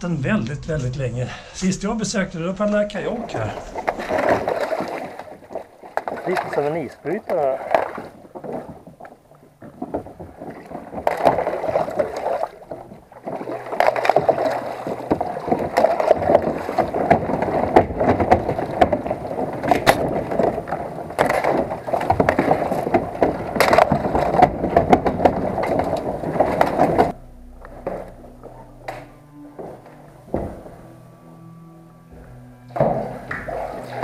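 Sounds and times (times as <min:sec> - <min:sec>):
ice crackling against canoe hull: 0:03.0 - 0:31.0.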